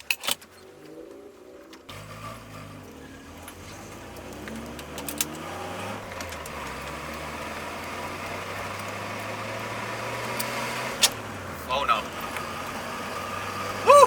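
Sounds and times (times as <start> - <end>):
car engine accelerating: 0.4 - 14.0.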